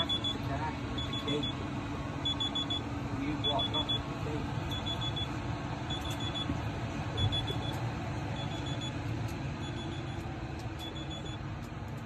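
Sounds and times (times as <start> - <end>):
car warning beeps: 0.0 - 11.7.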